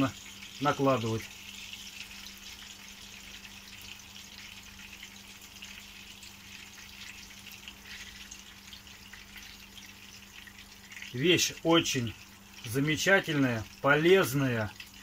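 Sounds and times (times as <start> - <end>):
batter sizzling in frying pan: 0.0 - 15.0
oil spitting crackles: 0.0 - 15.0.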